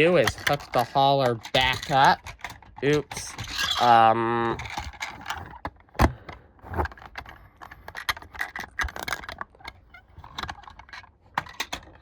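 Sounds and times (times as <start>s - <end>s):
toy truck clicks and rattles: 0.0s - 5.8s, 6.8s - 12.0s.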